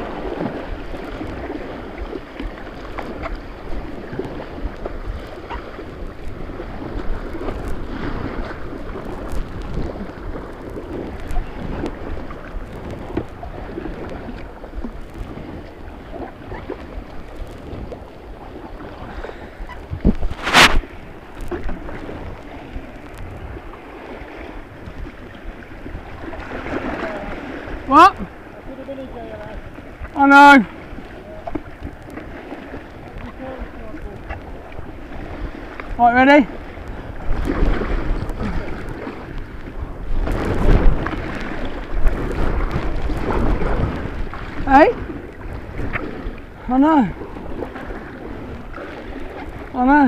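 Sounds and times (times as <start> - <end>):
white water rushing: 0.0 - 10.4, 11.1 - 50.0
paddle splashes: 0.0 - 50.0.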